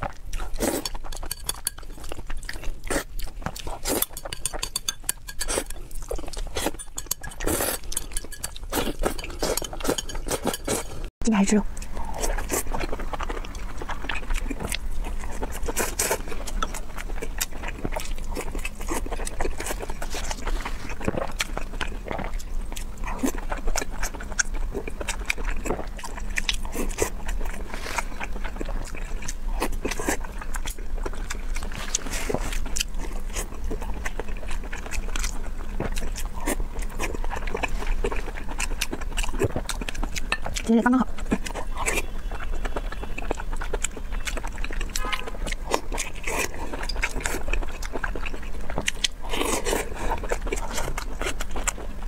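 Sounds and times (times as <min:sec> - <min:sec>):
chewing and lip-smacking: 0:00.0 - 0:11.1, 0:11.7 - 0:52.0.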